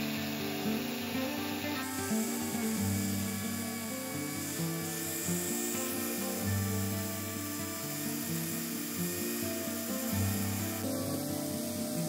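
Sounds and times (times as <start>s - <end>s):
high-pitched power tool whine: 0.0s - 12.0s.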